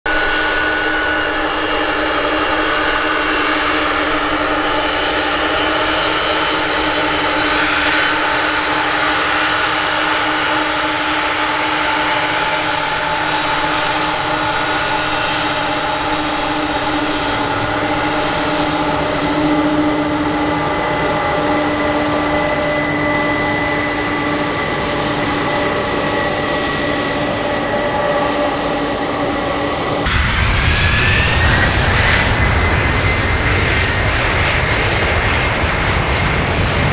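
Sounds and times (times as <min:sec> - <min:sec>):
jet engines whining: 0:00.1 - 0:36.9.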